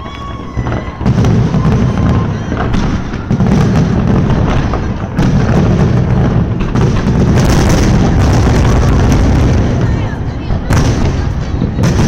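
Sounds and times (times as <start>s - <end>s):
crackling fireworks: 0.0s - 12.0s
fireworks booming: 0.0s - 12.0s.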